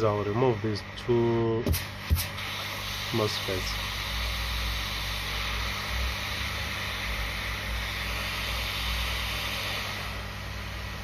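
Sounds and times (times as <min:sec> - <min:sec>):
hot air blower hissing: 0:00.0 - 0:11.0
low electrical hum: 0:00.0 - 0:11.0.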